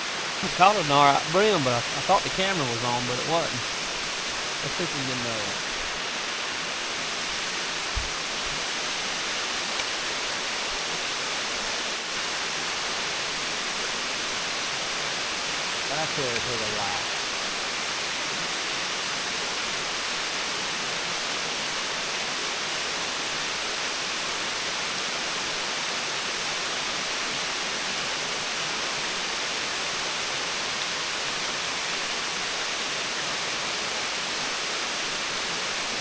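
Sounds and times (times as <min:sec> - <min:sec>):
creek water rushing over rocks: 0:00.0 - 0:36.0.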